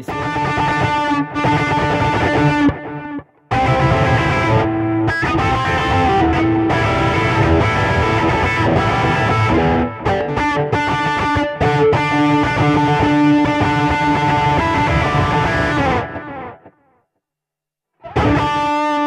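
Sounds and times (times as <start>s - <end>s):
distorted electric guitar riffing: 0.0s - 16.9s, 18.0s - 19.0s.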